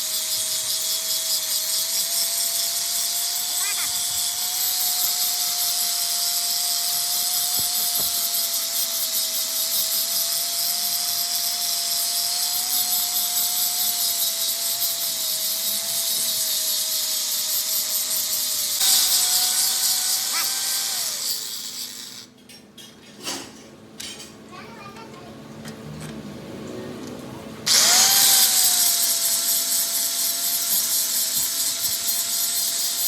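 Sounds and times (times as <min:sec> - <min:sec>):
electric power tool running: 0:00.0 - 0:22.3, 0:27.7 - 0:33.0
power tool winding down: 0:00.0 - 0:22.3, 0:27.7 - 0:33.0.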